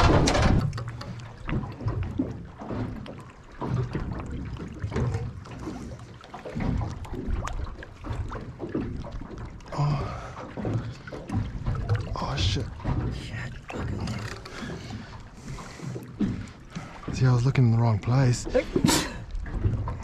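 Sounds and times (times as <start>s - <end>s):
water lapping against boat: 0.0s - 20.0s.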